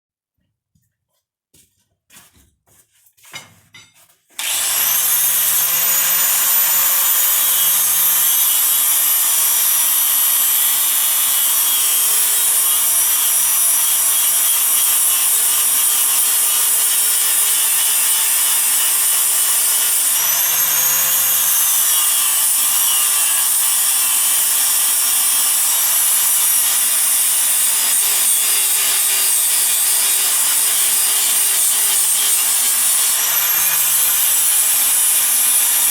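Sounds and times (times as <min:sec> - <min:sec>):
power tool grinding metal: 0:04.3 - 0:35.9.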